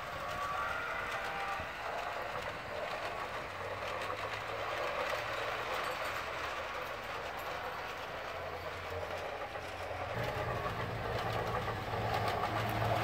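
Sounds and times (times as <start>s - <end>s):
toy train whirring: 0.0s - 13.0s.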